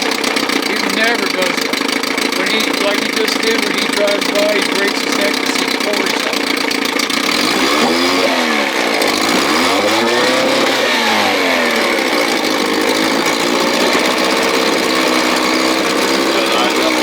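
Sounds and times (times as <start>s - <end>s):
outboard motor revving: 0.0s - 17.0s.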